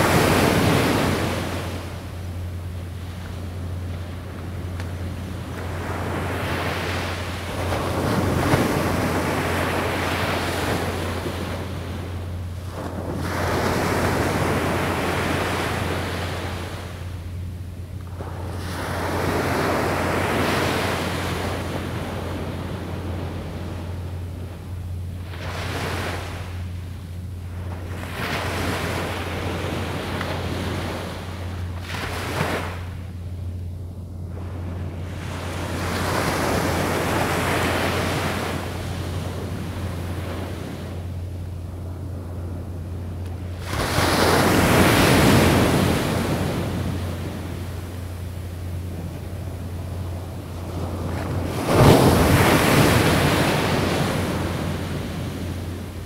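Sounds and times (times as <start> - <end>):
waves breaking on a beach: 0.0 - 33.6, 34.2 - 56.0.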